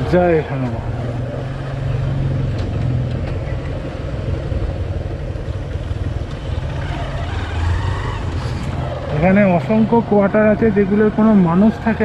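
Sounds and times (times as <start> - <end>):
motorcycle engine running: 1.8 - 12.0.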